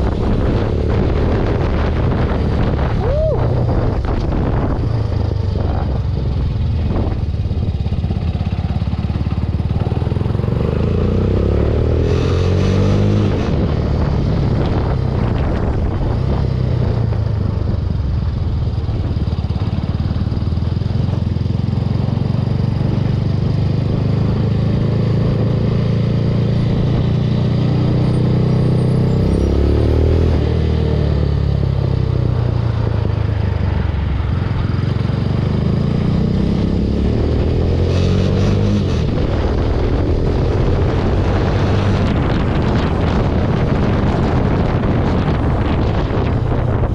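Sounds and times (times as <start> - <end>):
motorcycle engine revving: 0.0 - 46.9
wind noise on microphone: 0.0 - 46.9.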